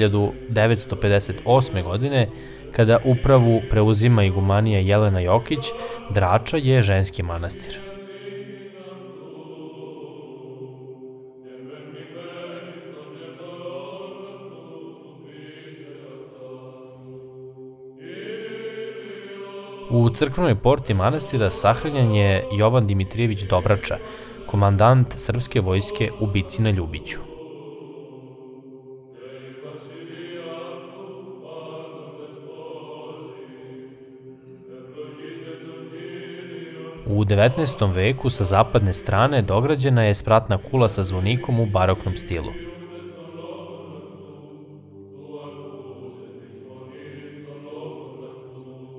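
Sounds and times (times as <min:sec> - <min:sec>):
slow choral chanting: 0:00.0 - 0:48.9.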